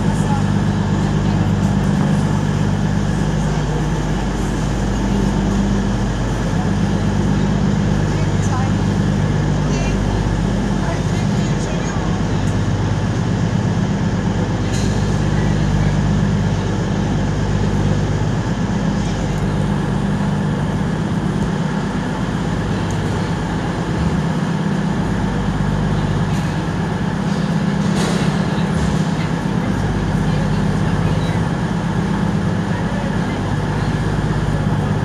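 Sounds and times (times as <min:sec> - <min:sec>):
train humming: 0:00.0 - 0:35.0
train pulling out rumble: 0:00.0 - 0:35.0.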